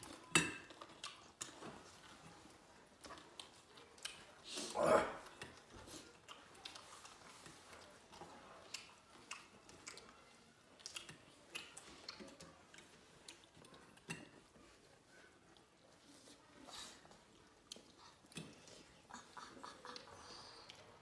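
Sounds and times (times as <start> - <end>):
chewing and mouth clicks: 0.0 - 21.0.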